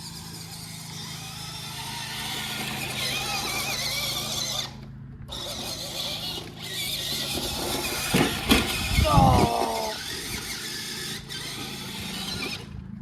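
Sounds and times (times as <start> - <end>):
electric toy truck motor whining: 0.0 - 13.0.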